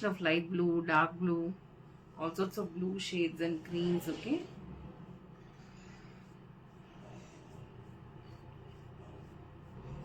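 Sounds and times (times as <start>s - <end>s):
low hum with soft hiss: 0.0s - 10.0s.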